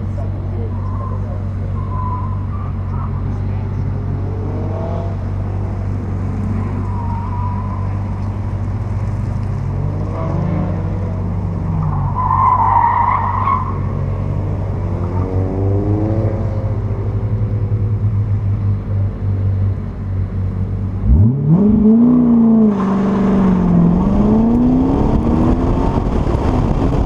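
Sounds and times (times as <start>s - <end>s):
car engine revving: 0.0s - 19.8s, 20.5s - 27.0s.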